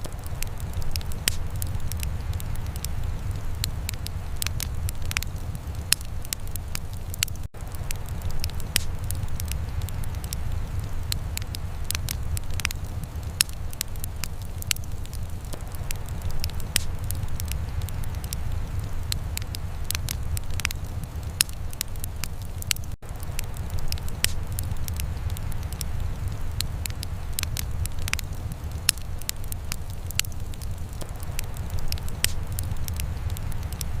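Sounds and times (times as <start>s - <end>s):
steady low rumble: 0.0s - 21.9s, 22.6s - 34.0s
fire pops and snaps: 0.0s - 34.0s
wood fire crackling: 0.0s - 34.0s.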